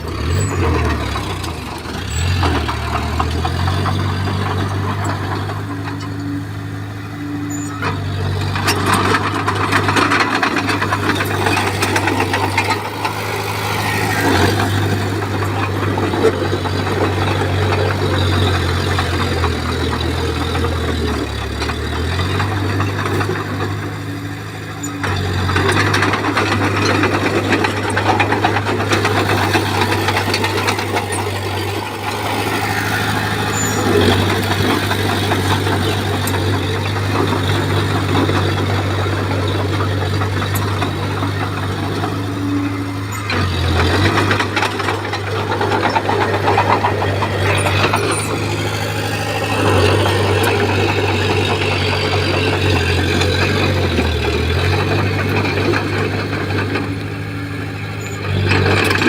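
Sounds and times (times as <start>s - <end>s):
bulldozer diesel engine: 0.0s - 59.0s
grinding clattering soil and stone: 0.0s - 59.0s.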